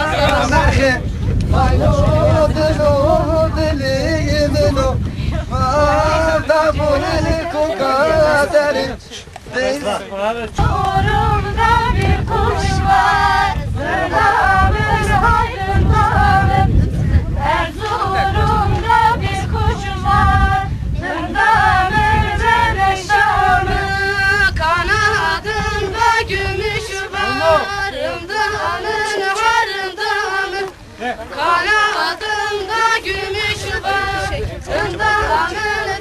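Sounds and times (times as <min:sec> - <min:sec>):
group singing folk song: 0:00.0 - 0:36.0.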